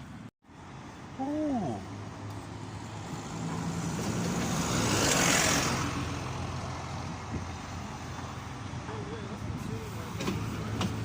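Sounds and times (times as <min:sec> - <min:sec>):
tyre and road noise: 0:00.0 - 0:11.0
vehicle passing by: 0:01.2 - 0:11.0.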